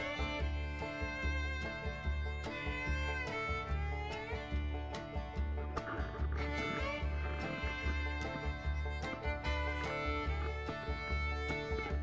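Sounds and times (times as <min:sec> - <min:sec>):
fiddle-led bluegrass tune: 0:00.0 - 0:12.0
steady bass beat: 0:00.1 - 0:12.0.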